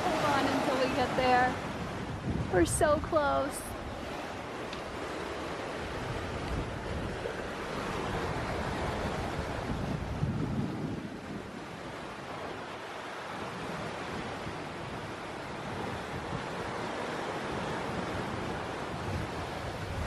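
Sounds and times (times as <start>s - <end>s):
sea waves: 0.0s - 20.0s
wind buffeting microphone: 0.0s - 20.0s.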